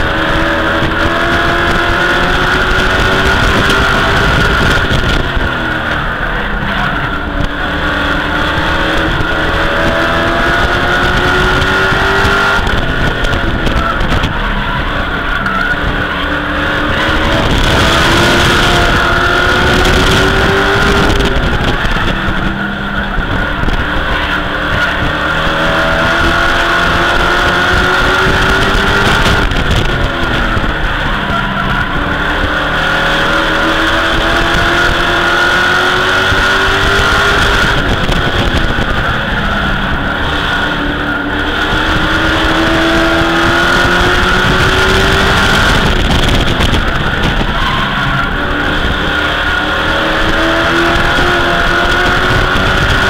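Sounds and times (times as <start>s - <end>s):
truck engine accelerating: 0.0s - 53.0s
tyre and road noise: 0.0s - 53.0s.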